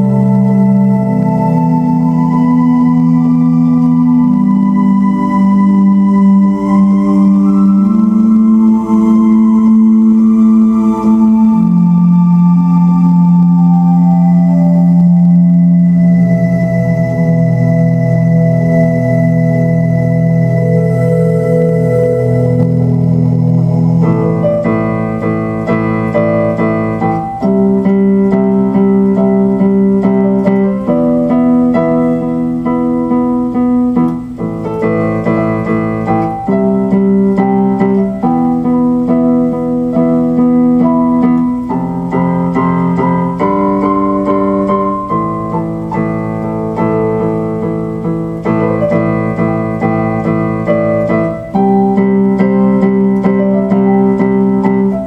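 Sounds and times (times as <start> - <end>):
keyboard piano chords: 0.0 - 55.0.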